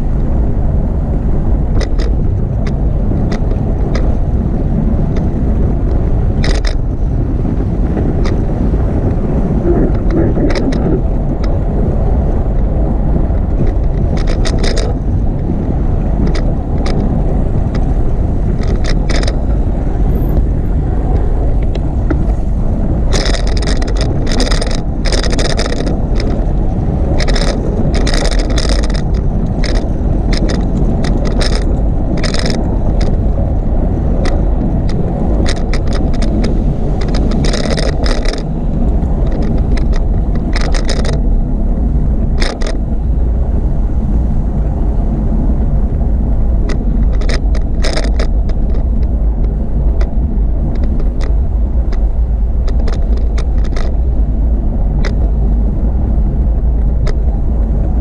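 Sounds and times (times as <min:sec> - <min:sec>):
wind and road noise rumble: 0:00.0 - 0:58.0
bicycle rattling clicks: 0:01.7 - 0:04.4, 0:05.0 - 0:09.2, 0:09.8 - 0:43.5, 0:45.6 - 0:58.0.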